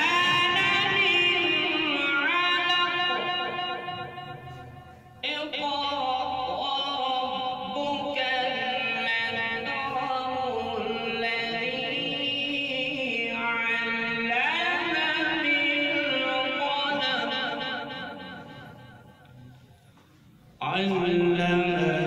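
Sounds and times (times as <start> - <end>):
man chanting melodically: 0.0 - 19.7, 20.5 - 22.0.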